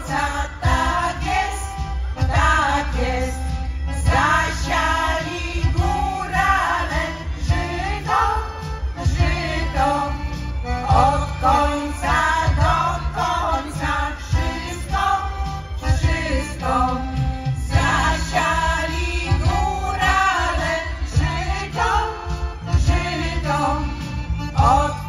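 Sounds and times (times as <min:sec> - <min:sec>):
folk vocal group singing: 0:00.0 - 0:25.0
low instrumental backing: 0:00.0 - 0:25.0.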